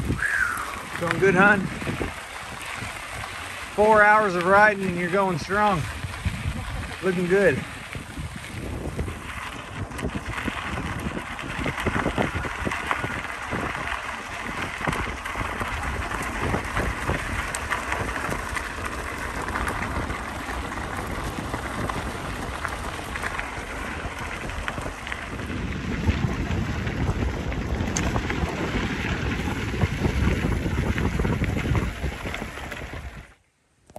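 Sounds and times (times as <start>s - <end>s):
tyres rolling over gravel: 0.0s - 33.4s
wind rushing over microphone: 0.0s - 33.4s.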